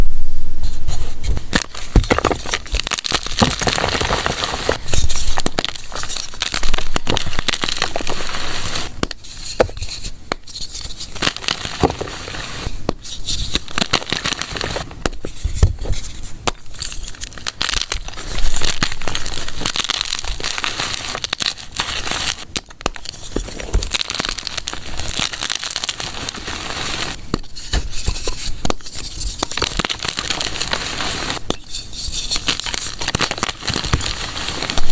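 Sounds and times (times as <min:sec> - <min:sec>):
chalk being crushed: 0:01.4 - 0:34.9.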